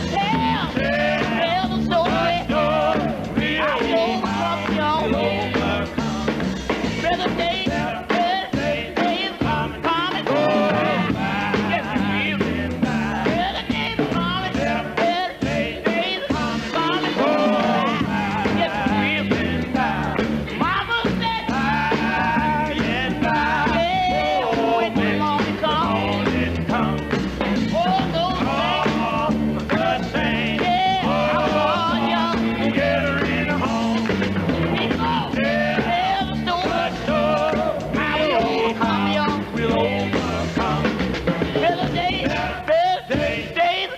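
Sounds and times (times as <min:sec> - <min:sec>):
steady bass line: 0:00.0 - 0:43.4
band accompaniment: 0:00.0 - 0:43.9
vocal quartet singing in harmony: 0:00.0 - 0:43.9.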